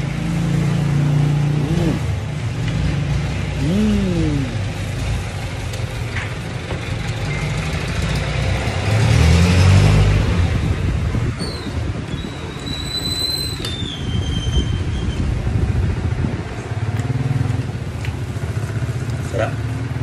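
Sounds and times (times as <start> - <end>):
road traffic engine hum: 0.0 - 20.0.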